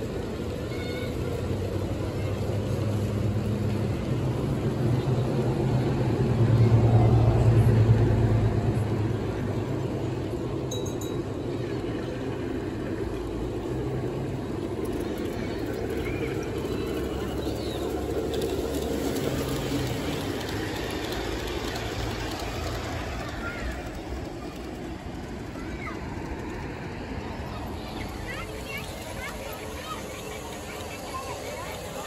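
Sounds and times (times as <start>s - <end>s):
model train wheels rumbling on rail: 0.0s - 32.0s.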